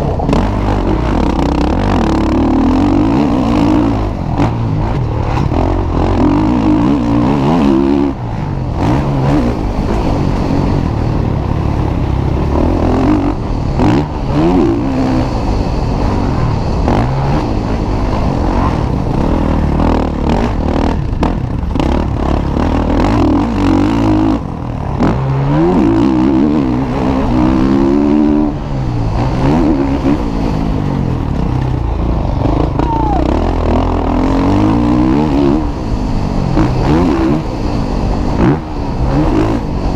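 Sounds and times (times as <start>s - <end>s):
motocross bikes racing: 0.0s - 39.9s.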